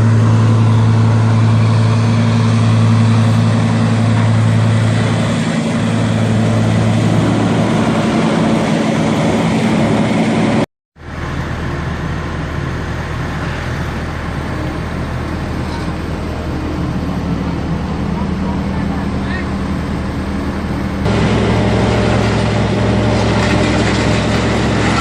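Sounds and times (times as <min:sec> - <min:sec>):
heavy machinery humming: 0:00.0 - 0:25.0.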